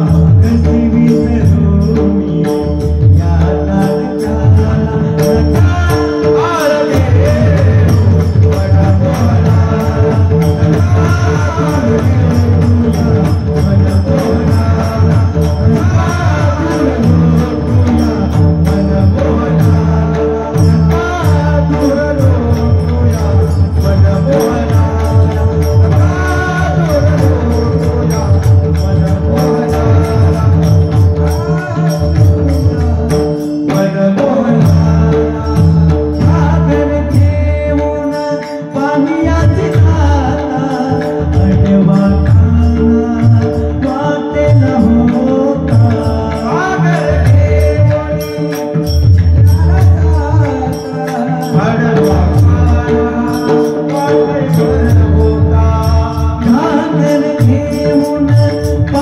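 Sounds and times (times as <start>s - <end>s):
hand drum: 0.0s - 59.0s
man singing devotional song: 0.0s - 59.0s.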